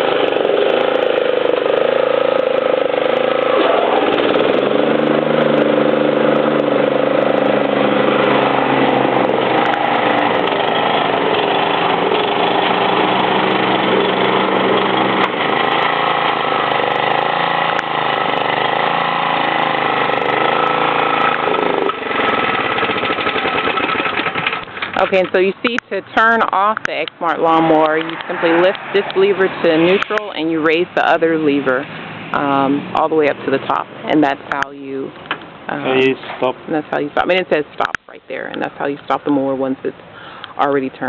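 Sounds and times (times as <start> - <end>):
lawn mower engine running: 0.0 - 41.0.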